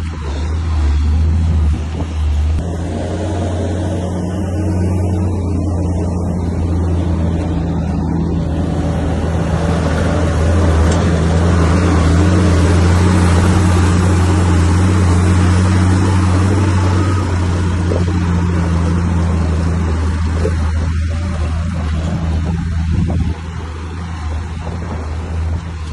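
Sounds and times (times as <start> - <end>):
bulldozer diesel engine running: 0.0 - 25.9.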